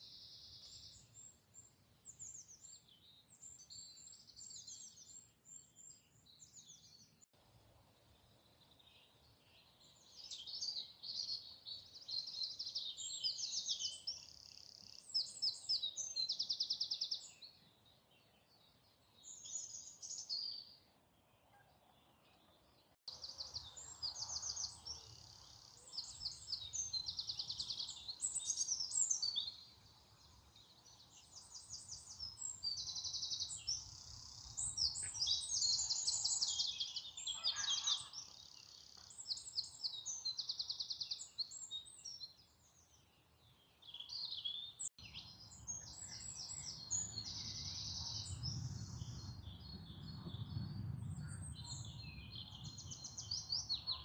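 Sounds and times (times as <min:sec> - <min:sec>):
songbirds singing: 0:00.0 - 0:07.3, 0:08.0 - 0:54.0.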